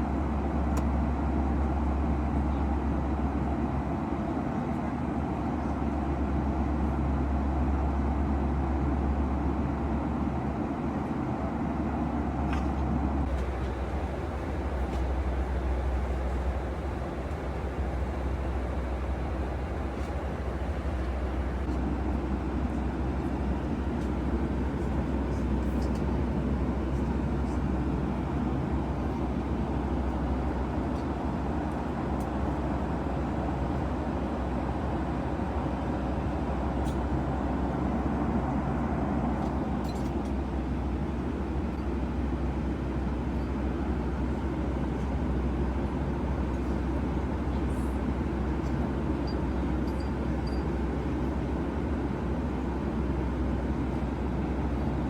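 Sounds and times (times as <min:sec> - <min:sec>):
airplane cabin engine rush: 0:00.0 - 0:55.0.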